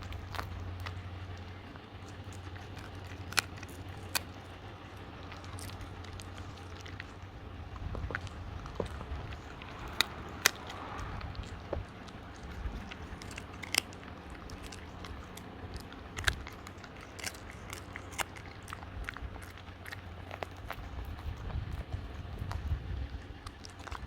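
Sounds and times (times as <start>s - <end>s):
dog chewing with crunches: 0.0s - 24.0s.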